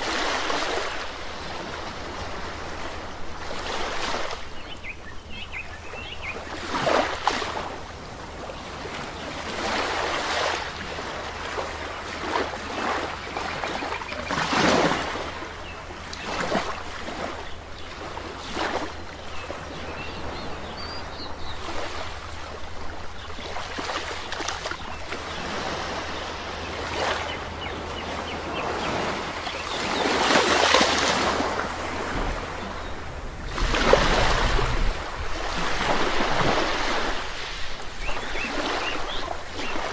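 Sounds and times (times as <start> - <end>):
sea waves washing onto beach: 0.0 - 5.1, 5.8 - 39.9.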